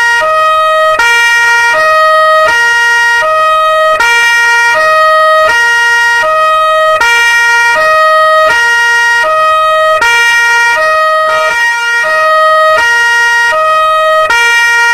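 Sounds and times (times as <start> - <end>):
two-tone police siren: 0.0 - 14.9.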